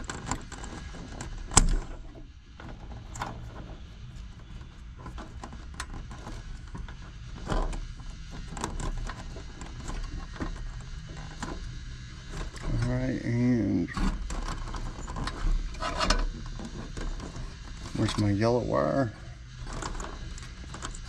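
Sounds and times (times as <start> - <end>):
hands working on wiring: 0.0 - 21.0.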